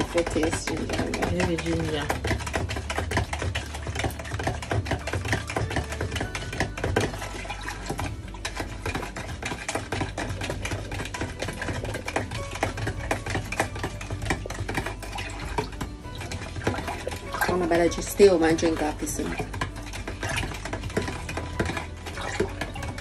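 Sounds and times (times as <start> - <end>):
metal spoon stirring in plastic pitcher: 0.0 - 23.0.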